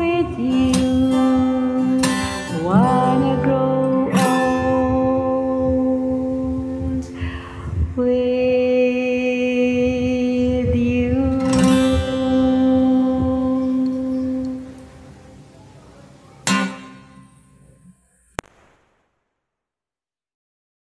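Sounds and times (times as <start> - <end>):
acoustic guitar ballad: 0.0 - 18.0.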